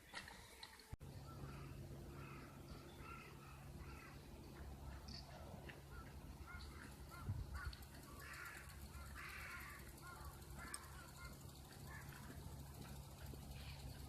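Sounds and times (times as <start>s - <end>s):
steady low hum: 1.0s - 14.0s
crows cawing: 1.2s - 14.0s.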